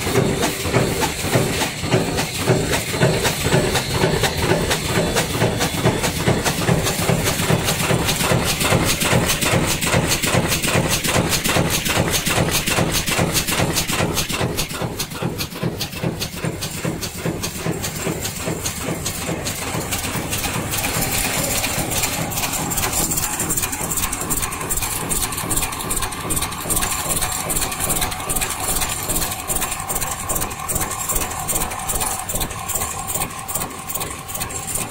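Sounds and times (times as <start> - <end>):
machine clattering: 0.0 - 34.9
steady mechanical hum: 0.0 - 34.9.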